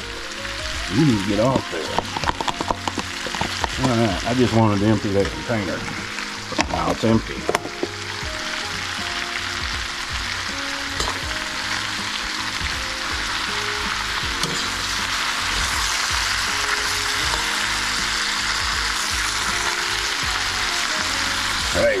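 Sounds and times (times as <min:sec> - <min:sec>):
food sizzling in a skillet: 0:00.0 - 0:22.0.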